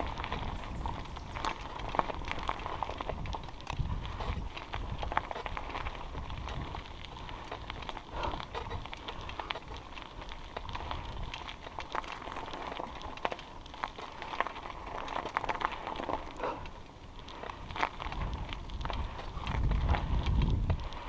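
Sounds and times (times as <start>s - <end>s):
bicycle tyres crunching on gravel: 0.0s - 21.0s
wind rumble on microphone: 0.0s - 21.0s.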